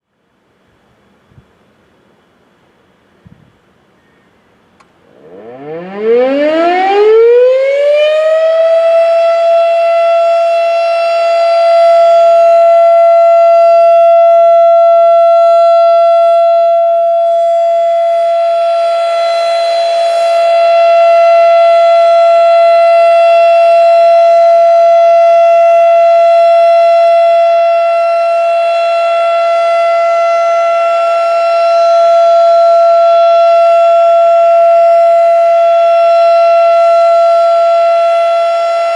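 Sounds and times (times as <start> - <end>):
warning siren wailing: 5.0 - 38.9.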